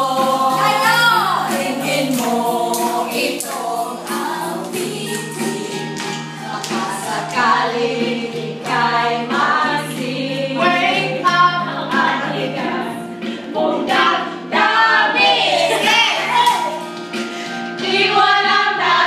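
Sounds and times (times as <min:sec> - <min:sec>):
women singing together: 0:00.0 - 0:16.8, 0:17.4 - 0:19.0
background music: 0:00.0 - 0:19.0.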